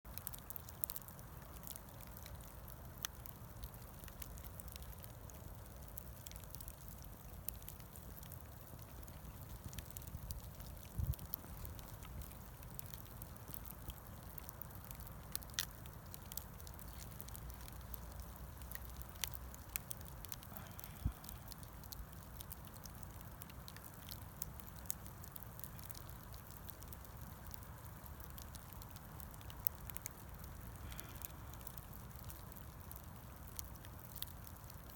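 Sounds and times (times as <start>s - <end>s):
bonfire crackling: 0.1s - 34.9s.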